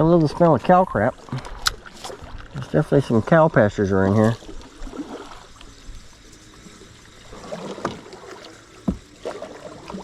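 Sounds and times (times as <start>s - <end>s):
water swishing from paddling: 0.0s - 10.0s.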